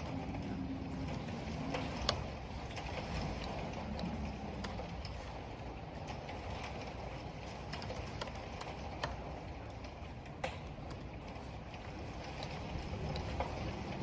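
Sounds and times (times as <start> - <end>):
wind and rain: 0.0 - 14.0.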